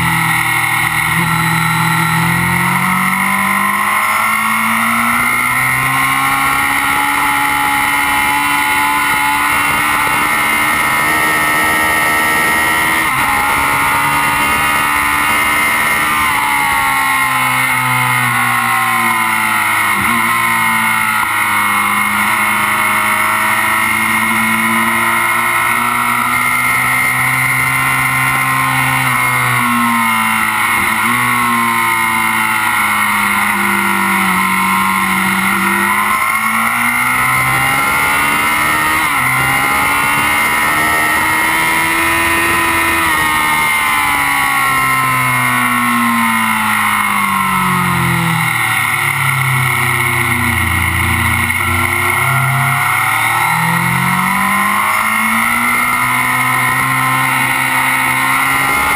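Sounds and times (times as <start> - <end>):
motorcycle engine running hard: 0.0 - 58.9.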